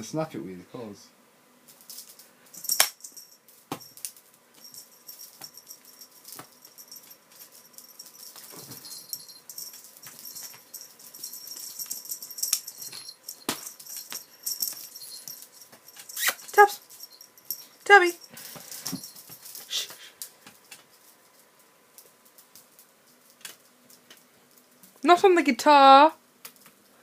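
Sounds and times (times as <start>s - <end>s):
light rattling: 1.7s - 25.0s.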